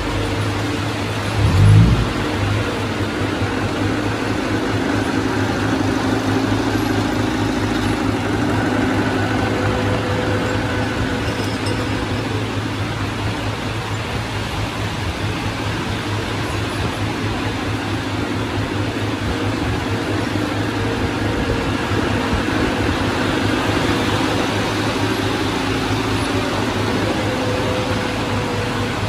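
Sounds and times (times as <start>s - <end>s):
diesel engine of heavy machinery: 0.0s - 29.0s.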